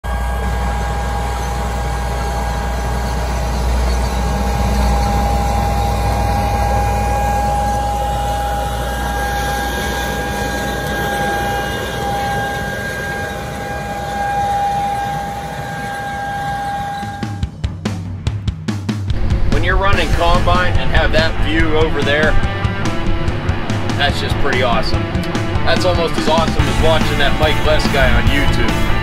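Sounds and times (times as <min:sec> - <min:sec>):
tractor engine deep rumble: 0:00.0 - 0:17.5, 0:19.1 - 0:29.0
constant high whine: 0:00.0 - 0:18.4, 0:19.1 - 0:29.0.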